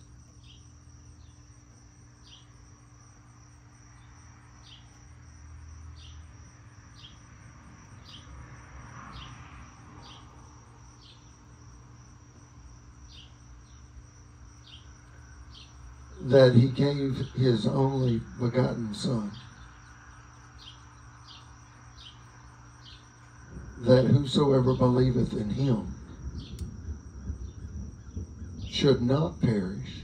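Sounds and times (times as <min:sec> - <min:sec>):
faint low hum: 0:00.0 - 0:30.0
insects trilling: 0:00.0 - 0:30.0.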